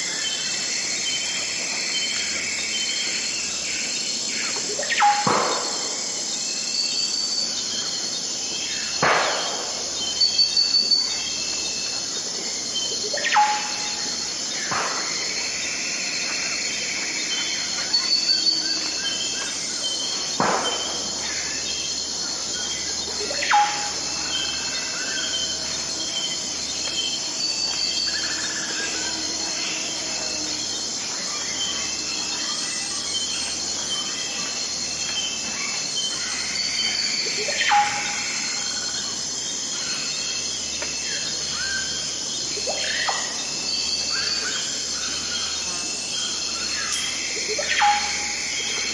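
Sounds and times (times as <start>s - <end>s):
insects hissing: 0.0s - 48.9s.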